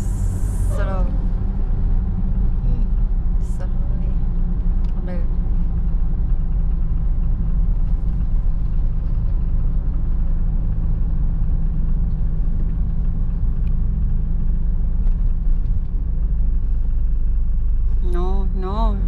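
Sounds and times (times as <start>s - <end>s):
car engine rumble: 0.0s - 19.0s
road noise inside car: 0.0s - 19.0s.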